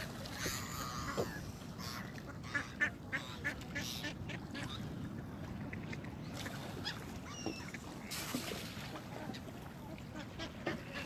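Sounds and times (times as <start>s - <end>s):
ducks and gulls: 0.0s - 11.0s.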